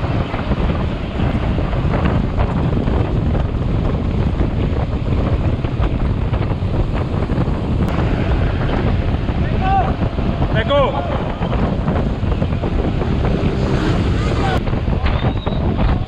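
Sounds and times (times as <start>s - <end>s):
bike tyre noise on road: 0.0s - 16.0s
wind buffeting microphone: 0.0s - 16.0s.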